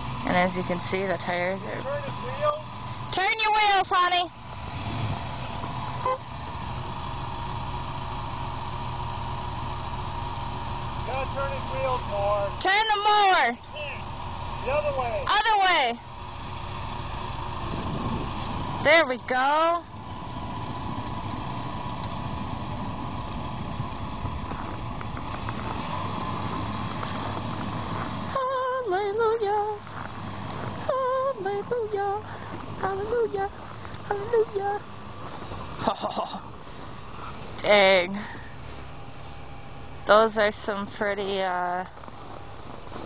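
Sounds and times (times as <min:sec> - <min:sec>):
engines running: 0:00.0 - 0:43.0.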